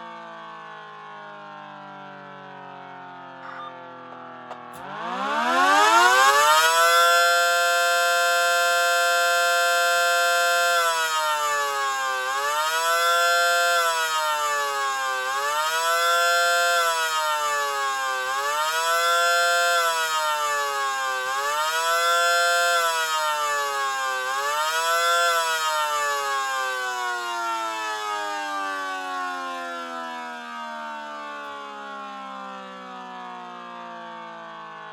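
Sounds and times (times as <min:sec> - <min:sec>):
mechanical siren wailing: 0:00.0 - 0:34.9.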